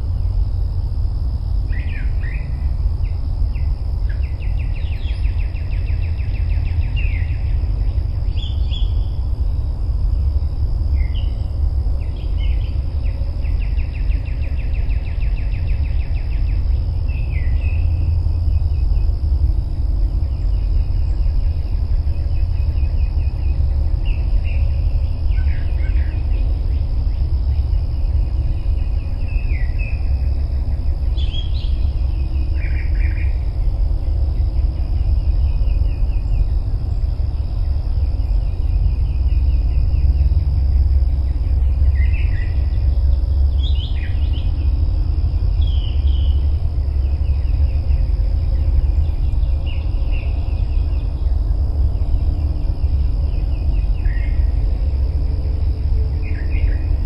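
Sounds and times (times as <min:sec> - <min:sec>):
rapid chirping trills: 0:00.1 - 0:57.0.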